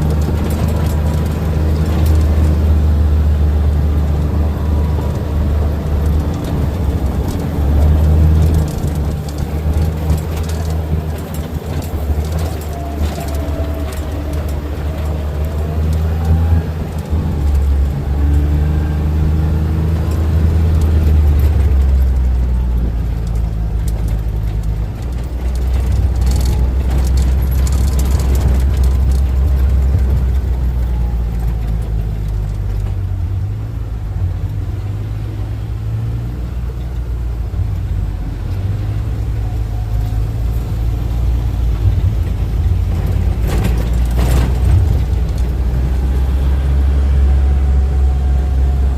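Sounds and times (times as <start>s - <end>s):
vehicle engine rumble: 0.0s - 48.9s.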